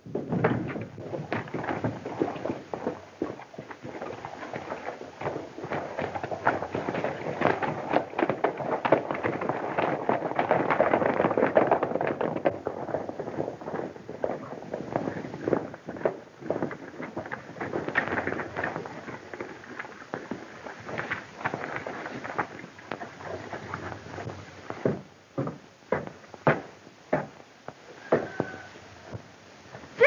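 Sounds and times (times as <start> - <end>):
horses galloping hoofbeats: 0.0 - 30.0.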